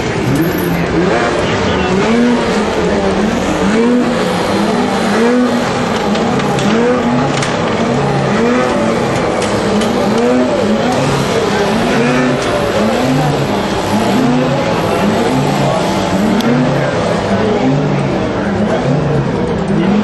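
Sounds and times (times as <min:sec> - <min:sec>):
snowmobile engines revving: 0:00.0 - 0:20.0.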